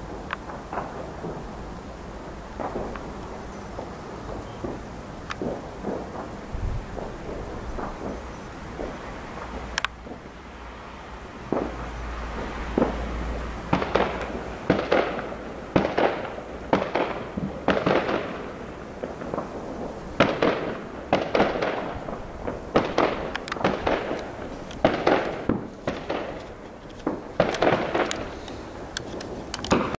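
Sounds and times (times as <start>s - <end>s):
fireworks bangs echoing: 0.0s - 10.8s, 11.4s - 29.9s.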